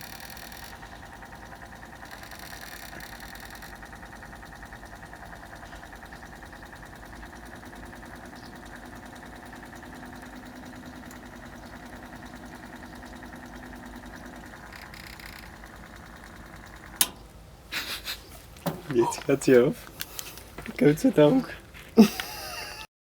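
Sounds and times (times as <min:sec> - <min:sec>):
washing machine running: 0:00.0 - 0:22.8.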